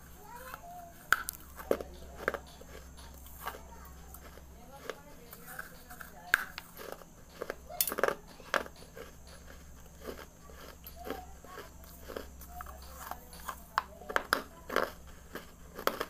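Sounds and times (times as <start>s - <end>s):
person crunching and chewing clay: 0.2s - 16.0s.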